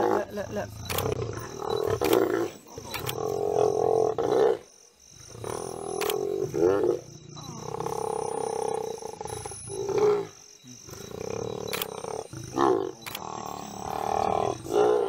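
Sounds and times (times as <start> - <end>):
lions growling: 0.0 - 4.7, 5.3 - 15.0
lions snarling: 0.0 - 4.7, 5.3 - 15.0.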